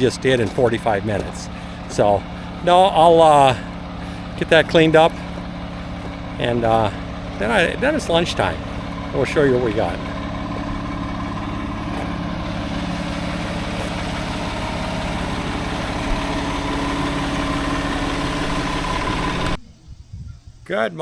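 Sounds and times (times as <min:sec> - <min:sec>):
diesel engine idling: 0:00.0 - 0:19.6.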